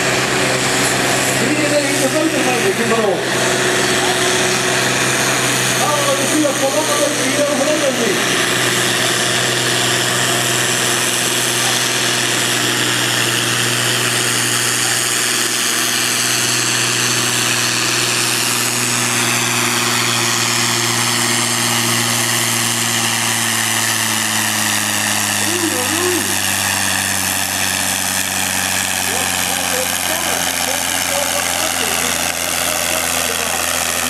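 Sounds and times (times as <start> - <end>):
tractor diesel engine droning: 0.0 - 34.0.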